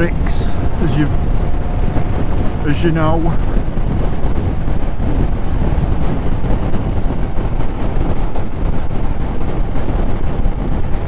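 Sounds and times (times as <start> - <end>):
motorcycle engine: 0.0 - 11.0
road noise: 0.0 - 11.0
wind buffeting microphone: 0.0 - 11.0.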